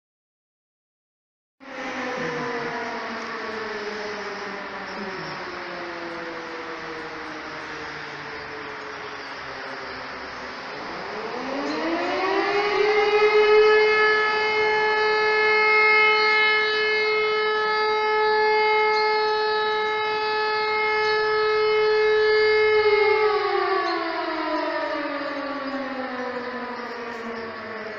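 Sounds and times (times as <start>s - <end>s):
warning siren: 1.6s - 27.9s.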